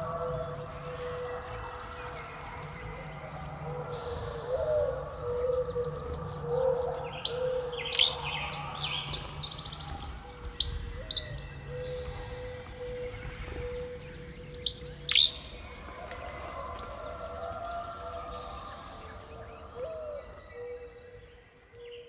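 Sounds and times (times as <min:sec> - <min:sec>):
sharp down-slurred bird notes: 0:00.0 - 0:22.0
songbirds chirping and trilling: 0:00.0 - 0:22.0
steady low tone: 0:00.0 - 0:22.0.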